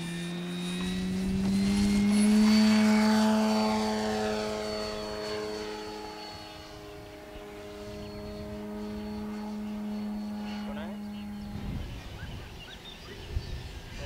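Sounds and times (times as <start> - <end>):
model plane propeller buzz: 0.0 - 14.0.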